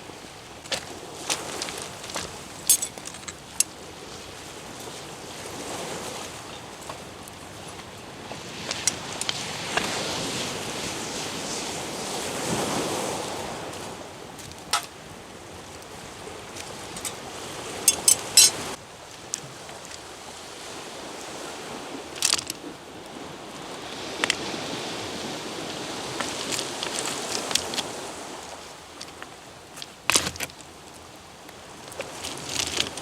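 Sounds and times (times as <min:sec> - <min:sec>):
surf: 0:00.0 - 0:33.0
wind: 0:00.0 - 0:33.0.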